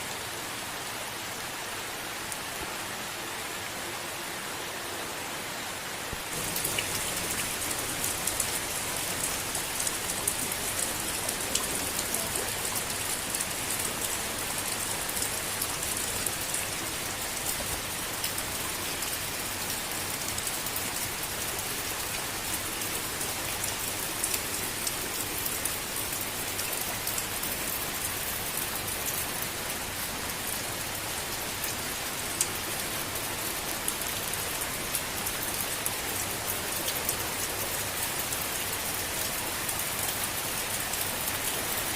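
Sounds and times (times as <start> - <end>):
gentle rain falling: 0.0 - 41.9.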